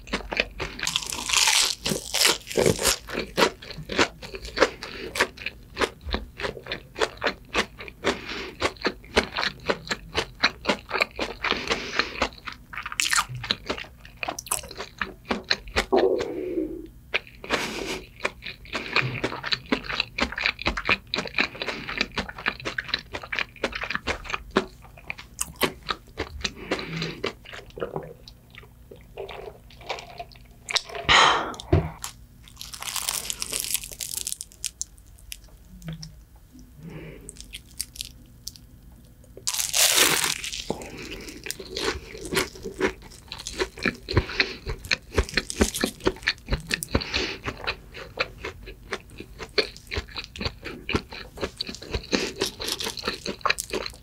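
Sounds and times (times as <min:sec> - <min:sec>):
crunching and chewing pastry: 0:00.0 - 0:16.2, 0:17.1 - 0:30.9, 0:32.0 - 0:36.2, 0:36.8 - 0:54.0.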